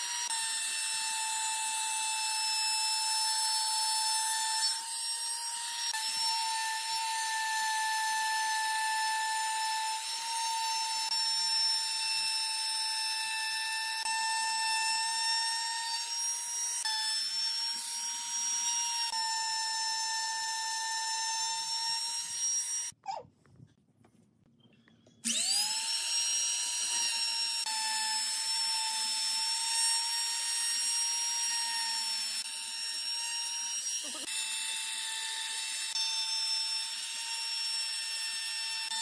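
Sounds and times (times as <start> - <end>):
router cutting wood: 0.0 - 23.0, 25.2 - 39.0.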